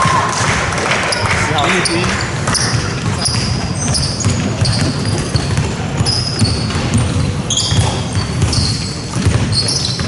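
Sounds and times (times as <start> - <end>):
basketball bouncing on court: 0.0 - 10.0
sneakers squeaking on floor: 1.1 - 10.0.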